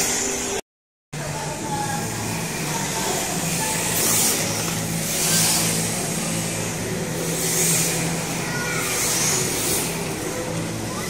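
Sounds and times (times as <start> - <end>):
steady low hum: 1.2 - 11.0
electric motors whirring: 1.6 - 11.0.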